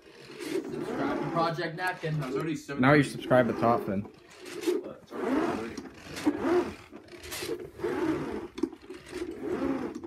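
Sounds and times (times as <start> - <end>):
carpet sweeper rolling over carpet: 0.0 - 10.0.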